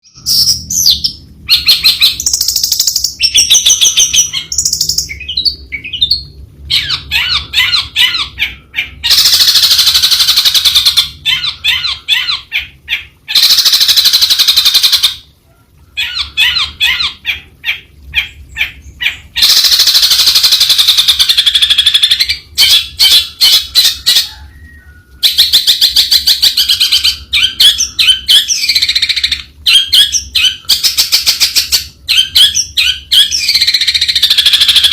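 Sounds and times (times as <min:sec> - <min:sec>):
bird singing rapid phrases: 0:00.0 - 0:15.2, 0:16.0 - 0:34.9.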